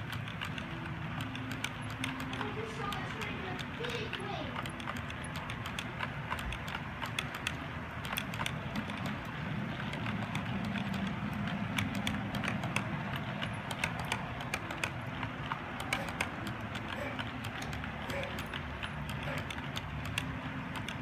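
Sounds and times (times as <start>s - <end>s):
model train wheels clicking: 0.0s - 21.0s
rolling train rumble: 0.0s - 21.0s.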